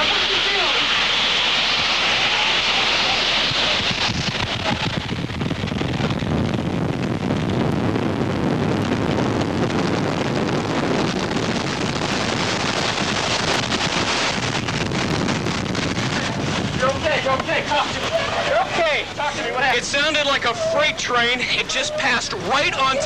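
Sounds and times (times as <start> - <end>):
tornado wind buffeting microphone: 0.0 - 23.0.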